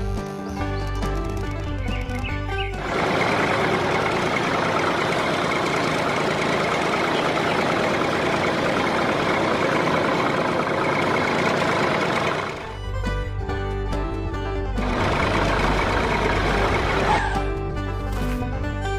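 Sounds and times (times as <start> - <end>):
tractor engine chugging: 1.2 - 17.6.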